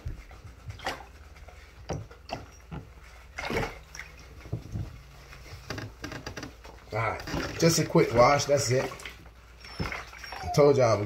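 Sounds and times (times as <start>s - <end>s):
bathwater splashing: 0.0s - 11.0s.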